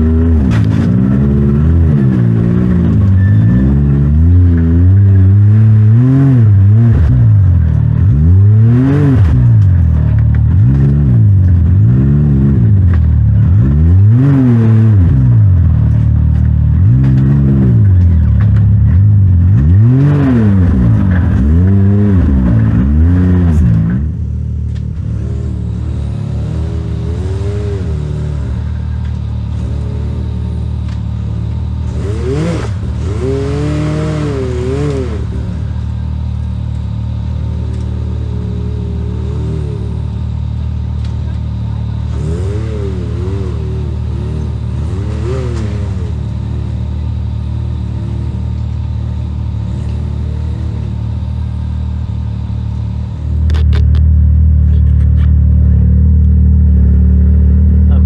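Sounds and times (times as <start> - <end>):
utility vehicle engine revving: 0.0 - 58.0.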